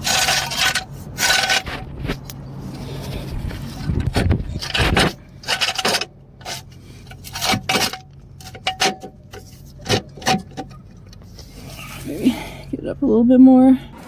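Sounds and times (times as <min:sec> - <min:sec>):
metal stands scraping on gravel: 0:00.0 - 0:12.8.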